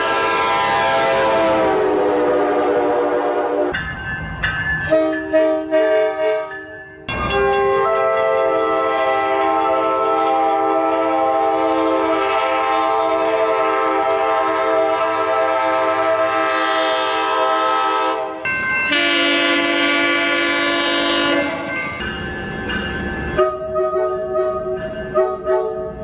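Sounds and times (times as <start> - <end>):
train horn chord: 0.0 - 3.8, 4.8 - 6.6, 7.4 - 21.7, 23.4 - 26.0.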